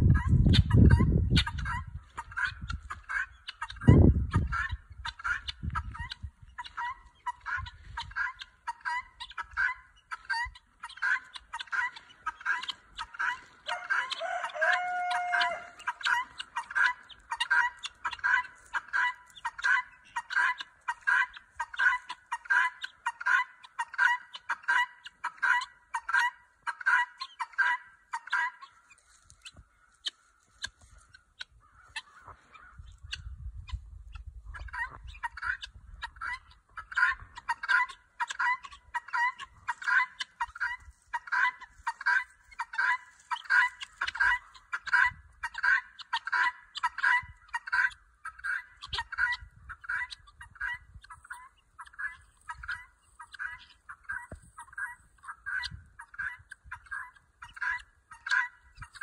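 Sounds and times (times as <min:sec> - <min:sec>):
guinea fowl alarm calls: 0:00.0 - 0:59.0.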